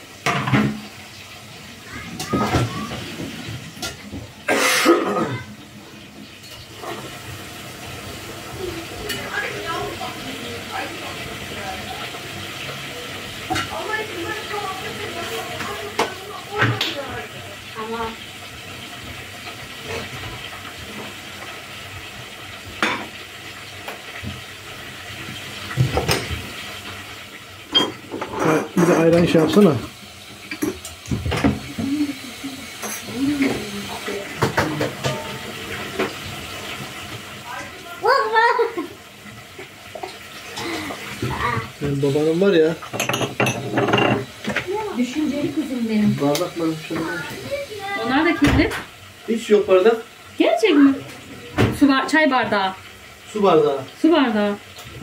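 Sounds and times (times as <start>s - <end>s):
pans and utensils clinking: 0.0s - 37.8s, 39.4s - 49.0s
food sizzling in hot oil: 0.0s - 55.0s.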